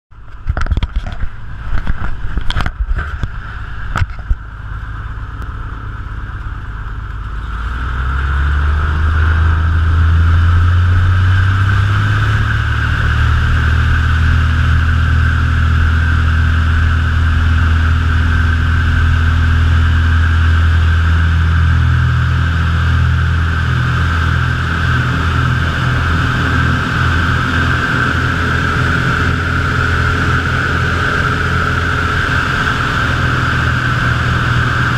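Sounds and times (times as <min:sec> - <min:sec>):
airplane engine and propeller: 0:00.1 - 0:34.9.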